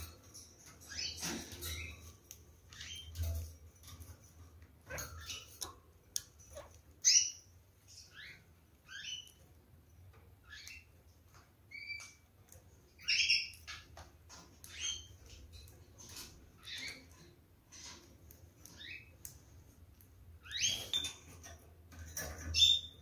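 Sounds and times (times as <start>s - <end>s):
parakeets chirping: 0.0s - 21.5s, 22.2s - 23.0s.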